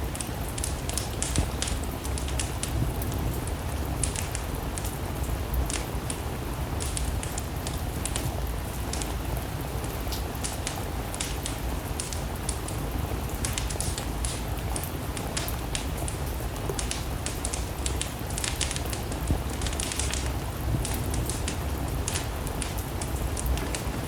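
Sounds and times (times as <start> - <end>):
steady rain: 0.0 - 24.0
wood fire crackling and popping: 0.0 - 24.0.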